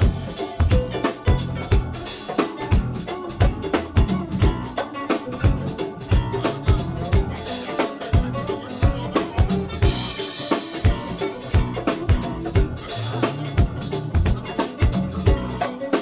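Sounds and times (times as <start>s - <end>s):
drum-kit groove: 0.0s - 16.0s
funk band playing: 0.0s - 16.0s.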